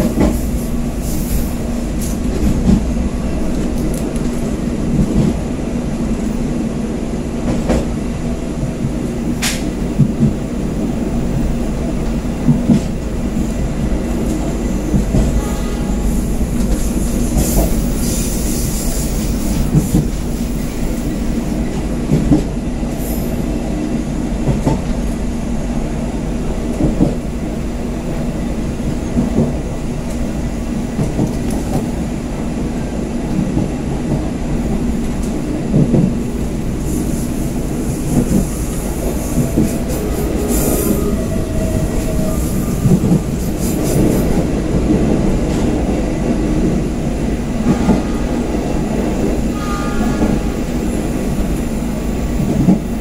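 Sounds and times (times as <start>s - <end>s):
train carriage rumbling: 0.0s - 53.0s.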